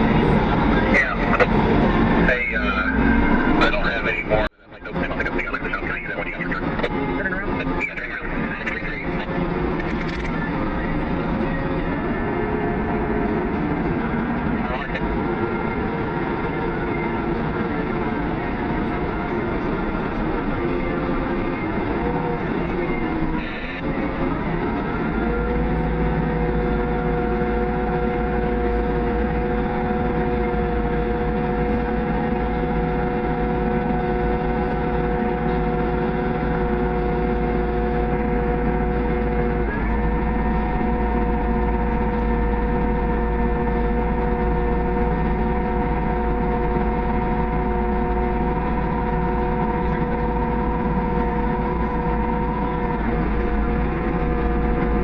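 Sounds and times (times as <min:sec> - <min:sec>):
higher whine: 0:00.0 - 0:55.0
steady whining tones: 0:00.0 - 0:55.0
tractor engine drone: 0:00.0 - 0:55.0.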